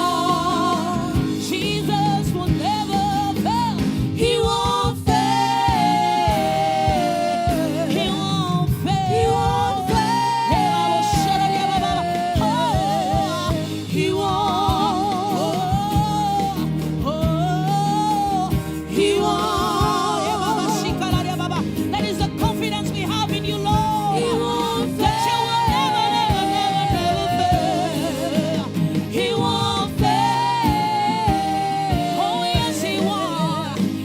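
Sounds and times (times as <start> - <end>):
band with drums: 0.0 - 34.0
gospel singing with vibrato: 0.0 - 34.0.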